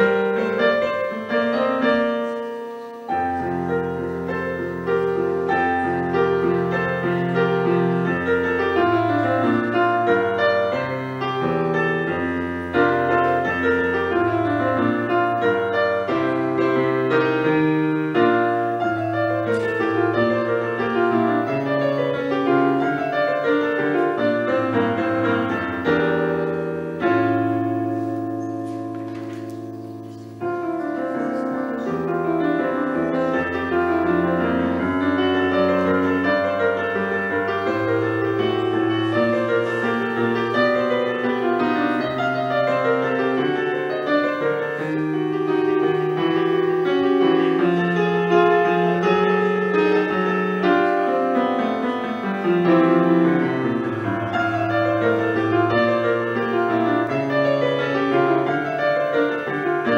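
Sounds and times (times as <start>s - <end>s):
keyboard piano playing: 0.0s - 59.9s.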